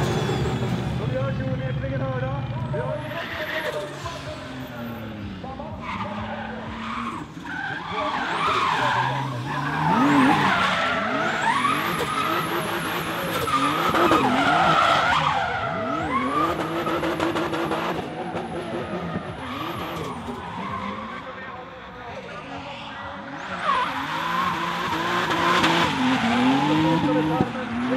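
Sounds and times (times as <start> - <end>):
car engine revving: 0.0 - 27.9
tyres skidding on asphalt: 0.0 - 27.9.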